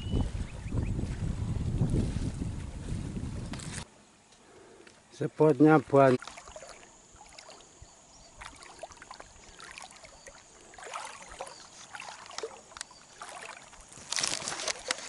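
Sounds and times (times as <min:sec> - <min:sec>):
person wading through water: 0:00.2 - 0:03.9, 0:05.7 - 0:15.0.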